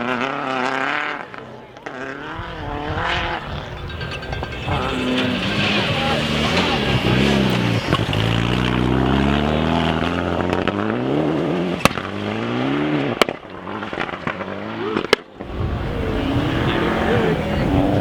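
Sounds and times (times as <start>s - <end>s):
rally car engine accelerating: 0.0s - 18.0s
second car engine rising: 2.0s - 18.0s.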